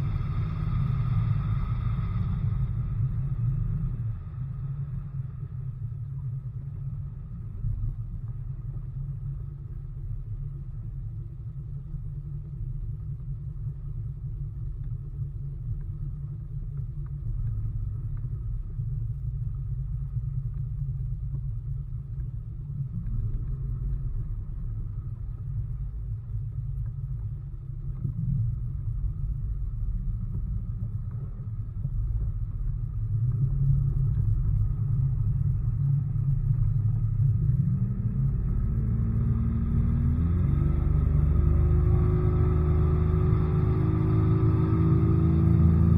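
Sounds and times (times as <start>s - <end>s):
faint steady motor whine: 0.0s - 45.9s
outboard motor rumble: 0.0s - 45.9s.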